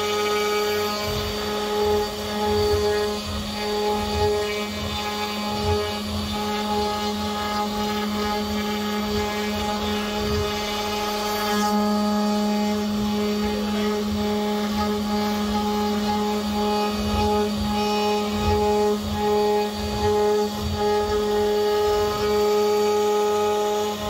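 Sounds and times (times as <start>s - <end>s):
low rumble of wood cutting: 0.0s - 24.0s
router spindle whine: 0.0s - 24.0s.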